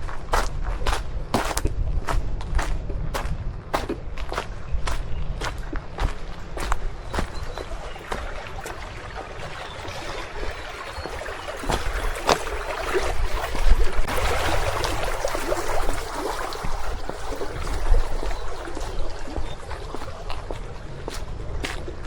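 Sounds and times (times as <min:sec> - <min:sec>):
footsteps: 0:00.0 - 0:22.0
wind rumble on microphone: 0:00.0 - 0:22.0
stream running water: 0:03.9 - 0:22.0.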